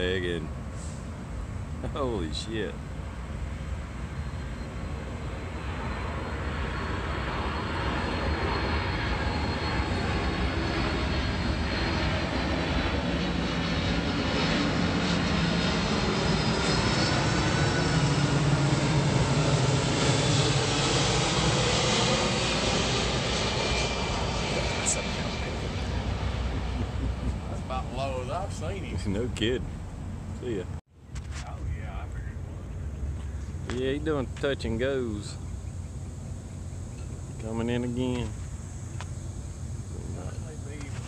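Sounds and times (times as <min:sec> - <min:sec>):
jet engines roaring overhead: 0:00.0 - 0:41.0.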